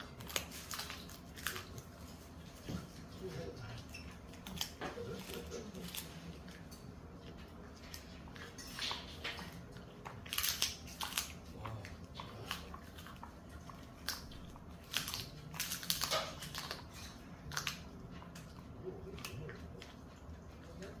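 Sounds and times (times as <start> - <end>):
dog crunching a bone treat: 0.0 - 21.0.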